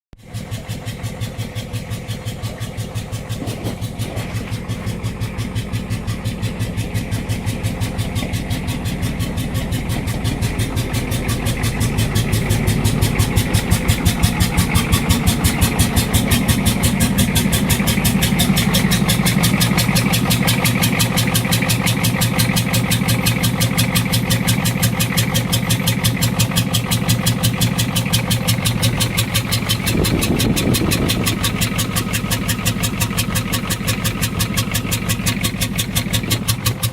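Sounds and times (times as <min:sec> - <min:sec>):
diesel engine idling roughly: 0:00.2 - 0:36.9.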